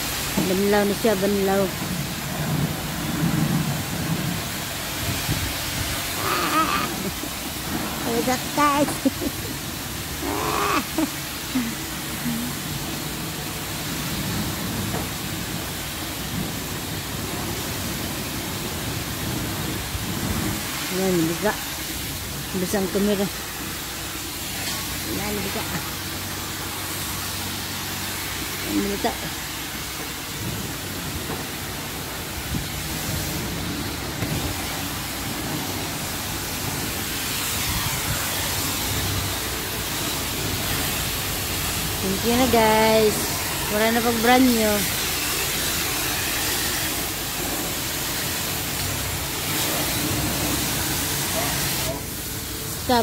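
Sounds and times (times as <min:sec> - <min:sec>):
pressure washer spraying car: 0:00.0 - 0:53.0.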